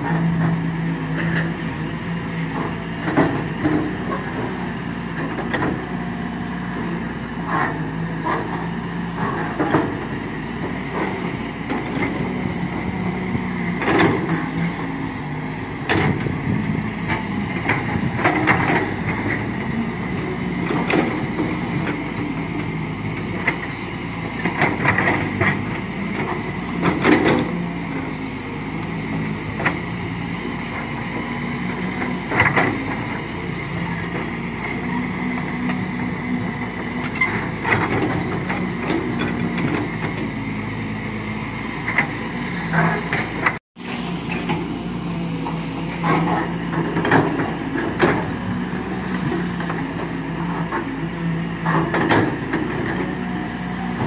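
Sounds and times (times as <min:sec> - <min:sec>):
heavy diesel machinery humming: 0:00.0 - 0:54.0.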